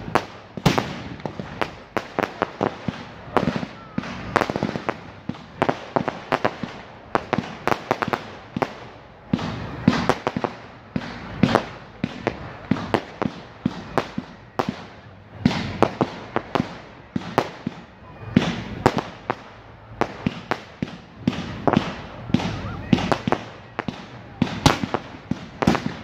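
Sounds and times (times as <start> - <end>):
fireworks crackle: 0.0 - 26.0
fireworks popping and banging: 0.0 - 26.0.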